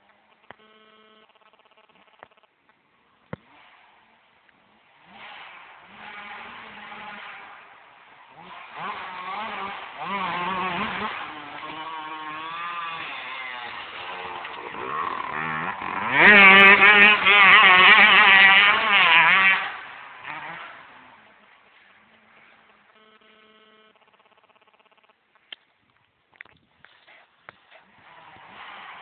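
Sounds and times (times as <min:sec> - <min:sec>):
motocross bike accelerating: 0:03.3 - 0:25.2, 0:26.9 - 0:29.0.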